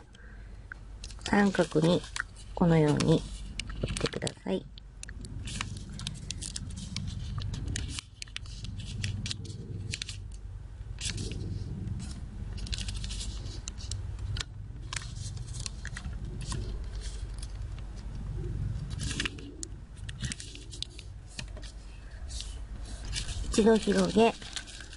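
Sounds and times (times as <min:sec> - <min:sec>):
paper folding and creasing: 0:01.0 - 0:04.6, 0:05.2 - 0:24.9.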